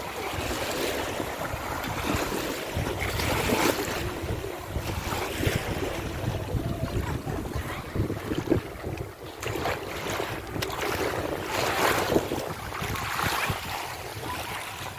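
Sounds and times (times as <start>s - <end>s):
sea waves washing: 0.0s - 14.9s
wind buffeting microphone: 0.0s - 14.9s.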